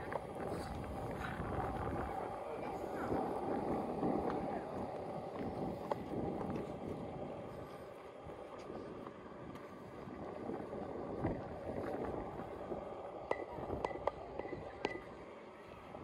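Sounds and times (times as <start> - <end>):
low rush of outdoor background: 0.0 - 16.0.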